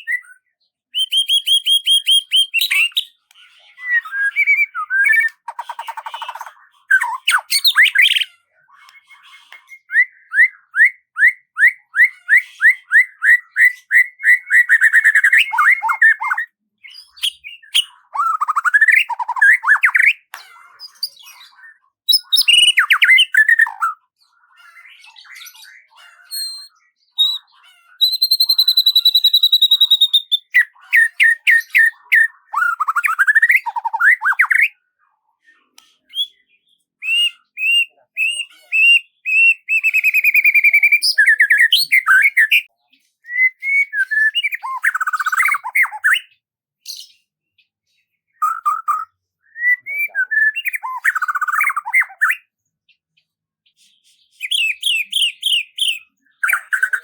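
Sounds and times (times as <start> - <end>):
songbird singing: 0.0 - 34.8, 35.6 - 47.8, 48.4 - 53.1, 54.3 - 57.0.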